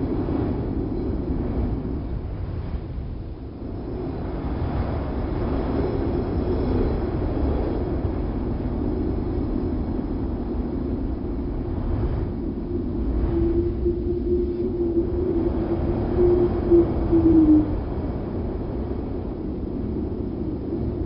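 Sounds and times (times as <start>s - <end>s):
wind rushing: 0.0s - 21.0s.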